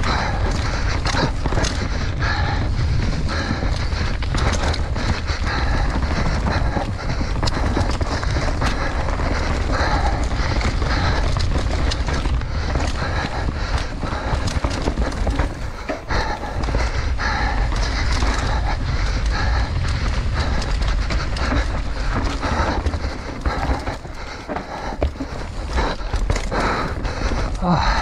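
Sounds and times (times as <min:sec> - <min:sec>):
bike chain and frame rattling: 0:00.0 - 0:28.0
bike tyres on dirt: 0:00.0 - 0:28.0
heavy breathing: 0:00.0 - 0:28.0
wind rumble on microphone: 0:00.0 - 0:28.0.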